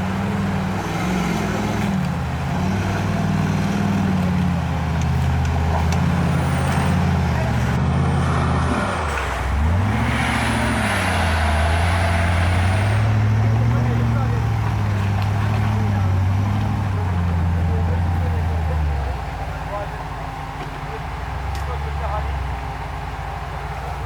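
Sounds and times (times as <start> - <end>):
off-road vehicle engine under load: 0.0 - 24.0.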